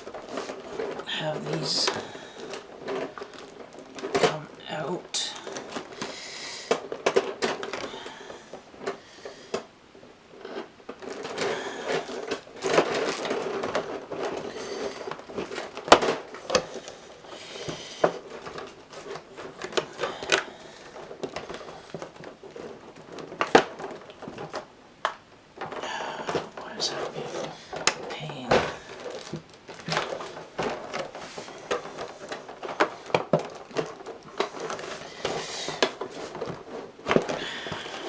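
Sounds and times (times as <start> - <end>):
plastic packaging crinkling: 0.0 - 38.0.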